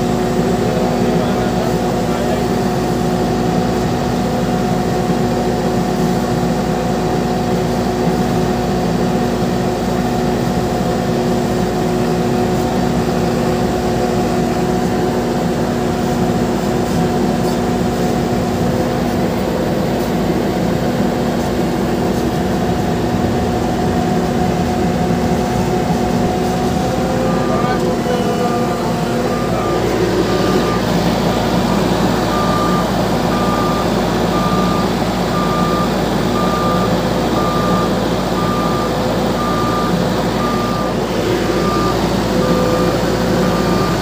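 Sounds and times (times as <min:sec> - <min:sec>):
road noise rumbling: 0:07.6 - 0:44.0
vehicle engine droning: 0:07.6 - 0:44.0.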